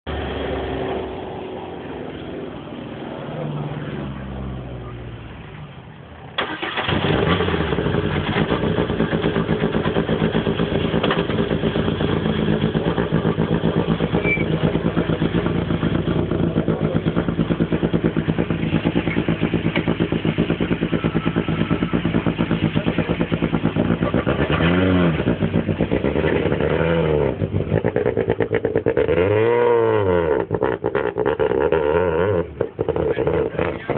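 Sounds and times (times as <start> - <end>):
car engine starting and idling: 0.1 - 33.9
engine revving: 6.4 - 33.9.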